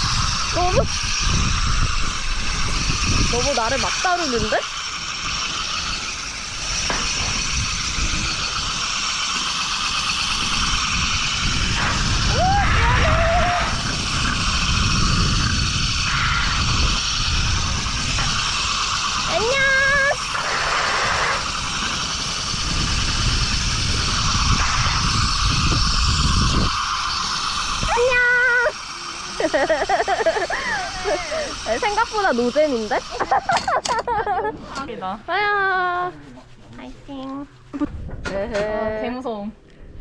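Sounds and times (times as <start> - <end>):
zipline trolley rolling rumble: 0.0 - 39.2
wind rushing over microphone: 0.0 - 40.0.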